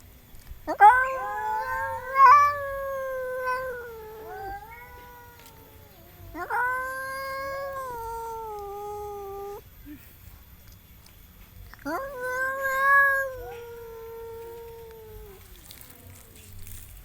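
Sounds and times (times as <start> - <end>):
cats yowling: 0.7 - 9.6, 11.7 - 16.9.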